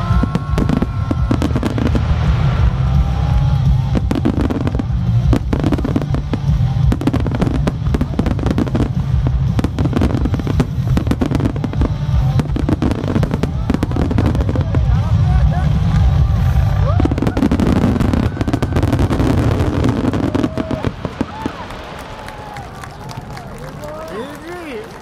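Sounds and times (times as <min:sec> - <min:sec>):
low rumble of booms: 0:00.0 - 0:22.6
music playing: 0:00.0 - 0:25.0.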